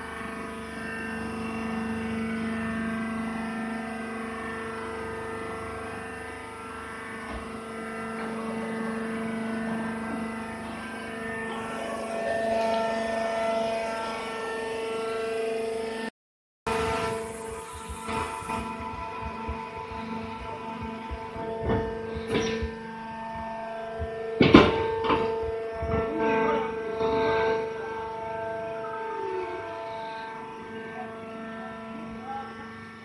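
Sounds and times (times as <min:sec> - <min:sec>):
hydraulic baler humming: 0:00.0 - 0:16.1, 0:16.7 - 0:33.0.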